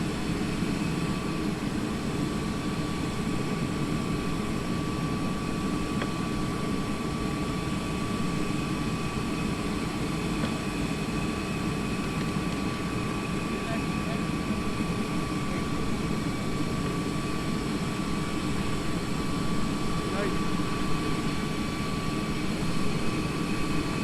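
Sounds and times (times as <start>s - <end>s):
jet engine low rumble: 0.0s - 24.0s
jet engine whine: 0.0s - 24.0s.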